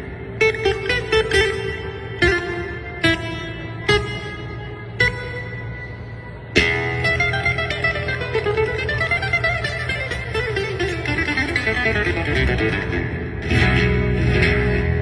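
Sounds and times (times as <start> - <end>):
fast classical guitar playing: 0.0 - 5.6, 6.6 - 15.0.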